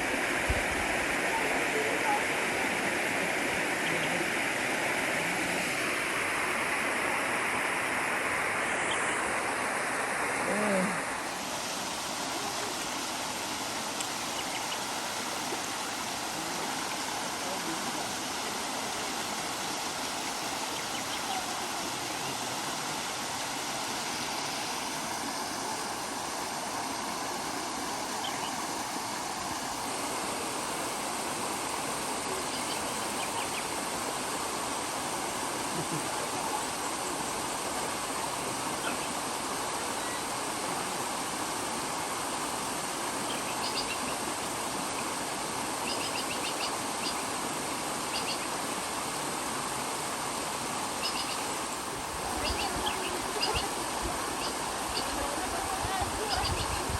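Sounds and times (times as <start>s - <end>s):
water rushing in rocky stream: 0.0s - 56.9s.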